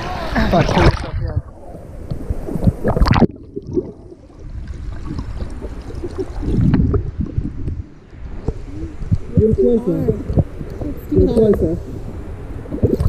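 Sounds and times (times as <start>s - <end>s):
underwater churning and gurgling: 0.0s - 13.0s.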